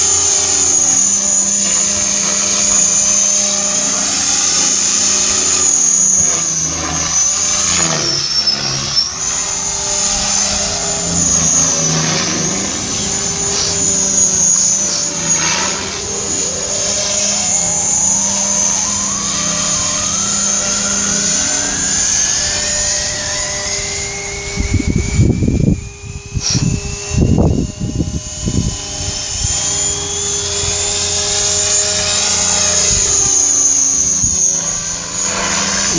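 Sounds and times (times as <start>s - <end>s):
rc helicopter whine: 0.0s - 35.9s
rising tone: 0.0s - 35.9s
rotor hum: 0.0s - 35.9s.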